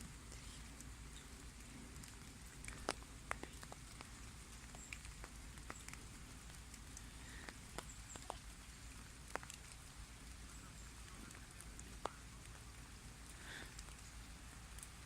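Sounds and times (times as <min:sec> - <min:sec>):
low steady rumble: 0:00.0 - 0:15.0
raindrops ticking on leaves: 0:00.0 - 0:15.0.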